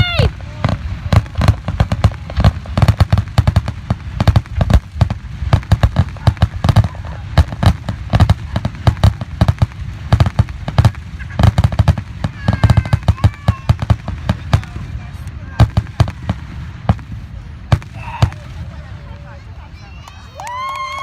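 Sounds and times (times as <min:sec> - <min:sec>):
fireworks barrage of bangs: 0:00.0 - 0:19.8.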